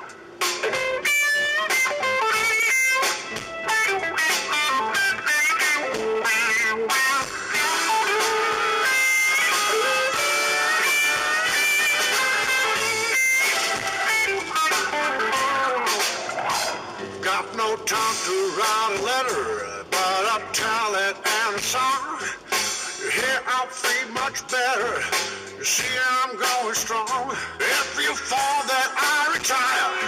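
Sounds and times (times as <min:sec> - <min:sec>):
electric guitar bending notes: 0:00.0 - 0:28.7
instrumental rock band: 0:00.0 - 0:30.0.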